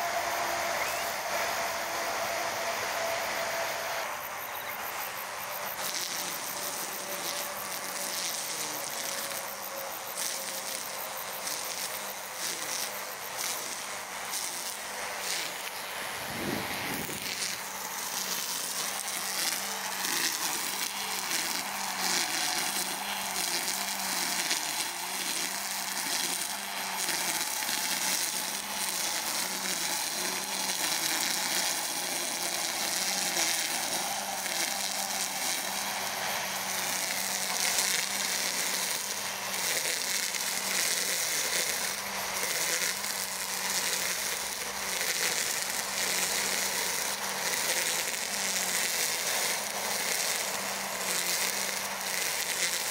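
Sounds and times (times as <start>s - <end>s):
cutter head hissing through grass: 0.0s - 52.9s
electric motor whining: 0.0s - 52.9s.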